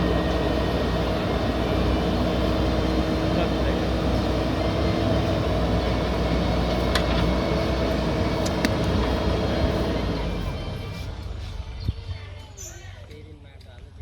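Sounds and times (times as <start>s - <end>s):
diesel engine running: 0.0s - 13.2s.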